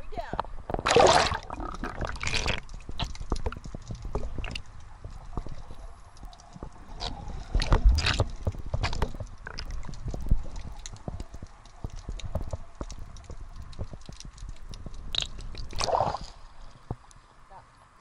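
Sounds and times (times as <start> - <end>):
water swishes: 0.0 - 18.0
underwater crackling clicks: 0.3 - 17.2.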